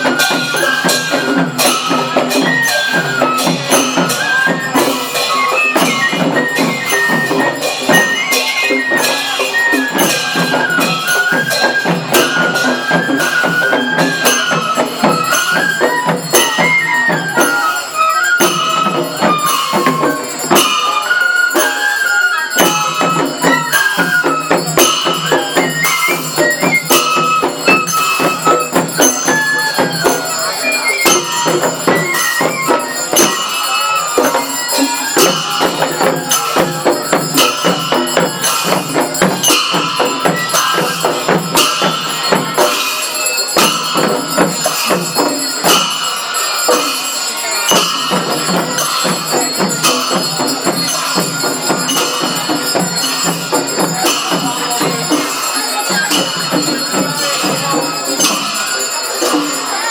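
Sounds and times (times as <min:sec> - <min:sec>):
jingling percussion beat: 0:00.0 - 0:59.9
traditional-style melody: 0:00.0 - 0:59.9.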